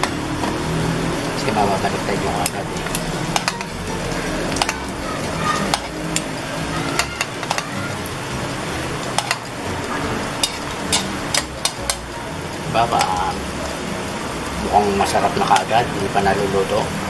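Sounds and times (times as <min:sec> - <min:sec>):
fish balls sizzling in oil: 0:00.0 - 0:17.0.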